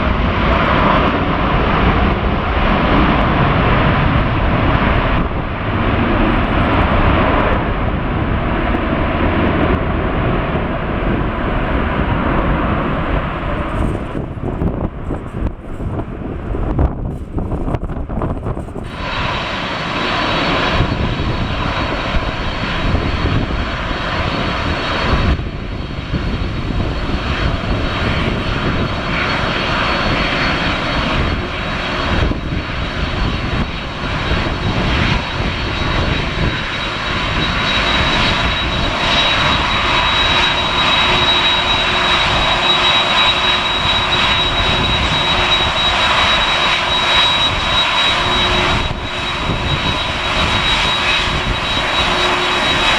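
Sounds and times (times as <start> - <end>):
jet engines roaring with high whine: 0.0 - 52.9.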